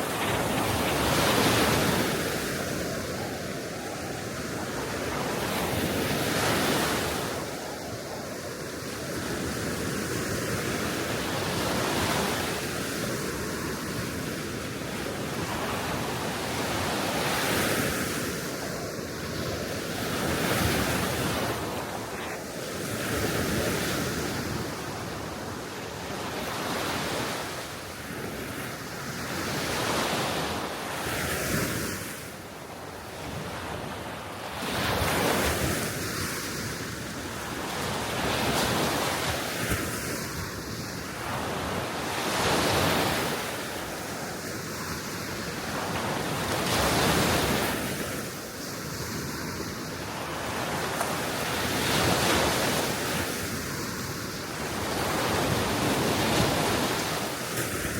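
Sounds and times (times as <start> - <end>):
small waves breaking on shore: 0.0 - 57.9.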